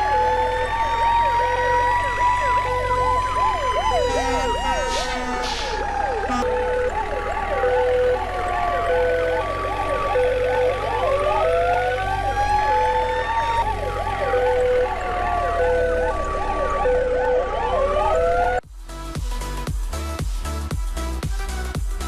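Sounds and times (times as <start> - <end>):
siren slow wail: 0.0 - 18.6
siren yelp: 0.0 - 18.6
two-tone hi-lo siren: 0.0 - 18.6.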